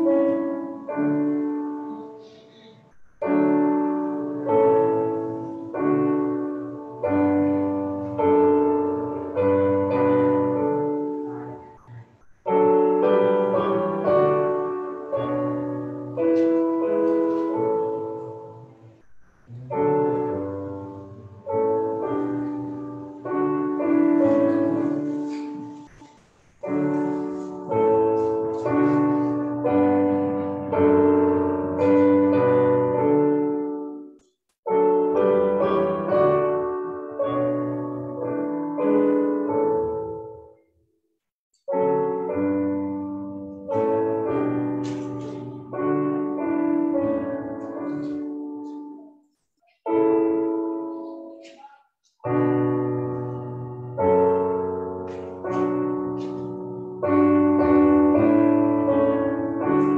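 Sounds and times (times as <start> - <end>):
piano playing slow chords: 0.0 - 26.0, 26.6 - 40.6, 41.7 - 49.2, 49.9 - 59.9.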